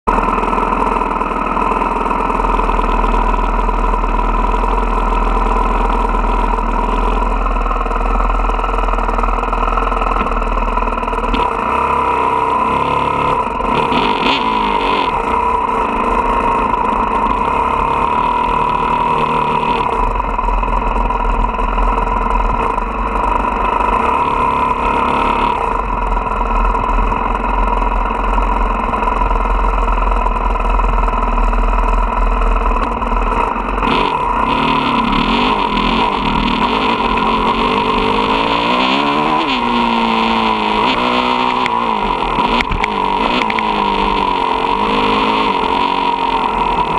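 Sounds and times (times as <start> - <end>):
dirt bike engine idling: 0.0 - 46.9.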